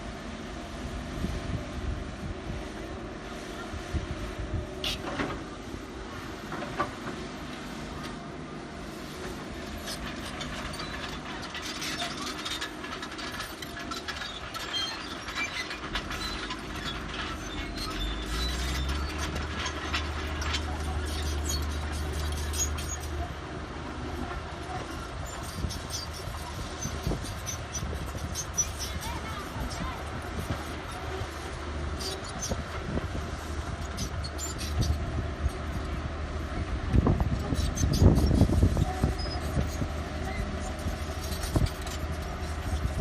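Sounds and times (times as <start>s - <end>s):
excavator metal clanking and squealing: 4.8s - 5.6s, 6.4s - 43.0s.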